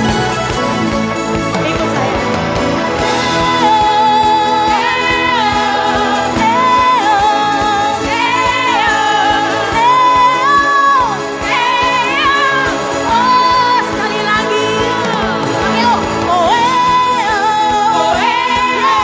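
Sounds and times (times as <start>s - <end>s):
worship band playing: 0.0s - 19.0s.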